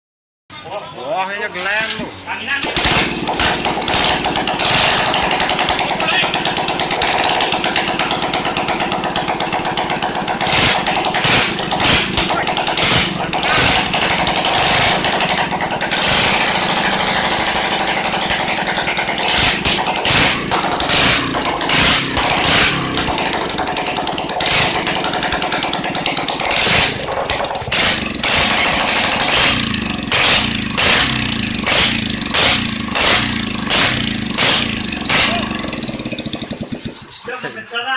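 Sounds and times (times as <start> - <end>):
motorcycle engine revving: 2.6 - 37.3.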